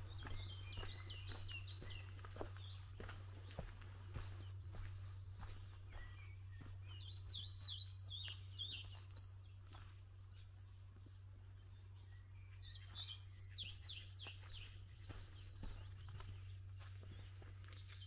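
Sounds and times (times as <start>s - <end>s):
footsteps on woodland path: 0.0s - 18.0s
songbird singing: 0.0s - 18.0s.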